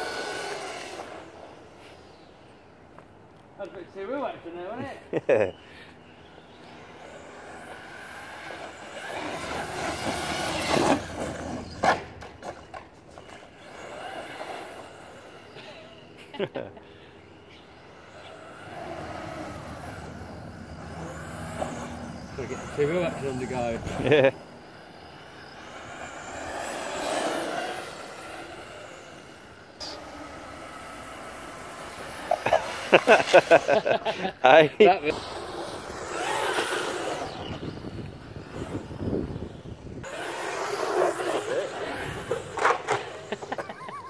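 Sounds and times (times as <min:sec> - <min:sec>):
rc truck motor and tyres: 0:00.0 - 0:04.0, 0:04.6 - 0:44.0.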